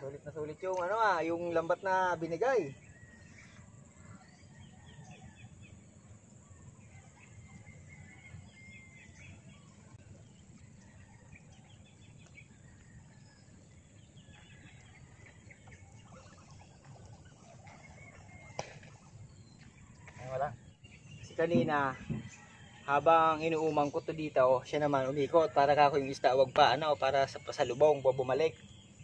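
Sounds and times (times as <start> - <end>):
bird chirps: 0.0 - 29.0.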